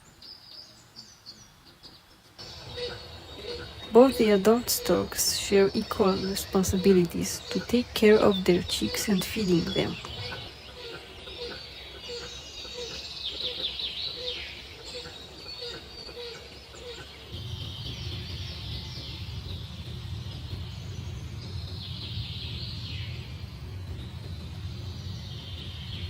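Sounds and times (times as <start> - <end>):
birds chirping: 0.0 - 26.0
steady low hum: 2.4 - 26.0.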